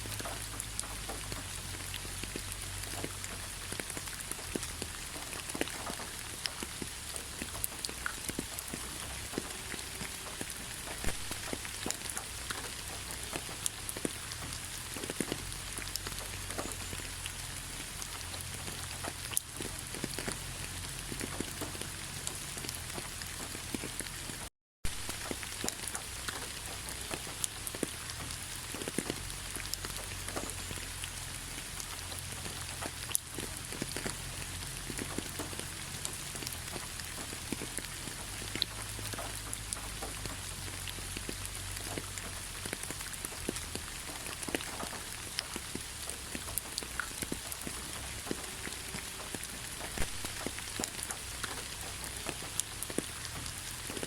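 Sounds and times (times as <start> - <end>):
rain falling: 0.0 - 54.0
raindrops tapping: 0.0 - 54.0.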